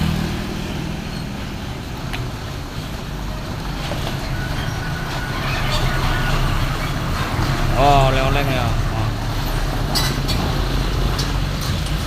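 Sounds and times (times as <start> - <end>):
truck engine running low: 0.0 - 12.0.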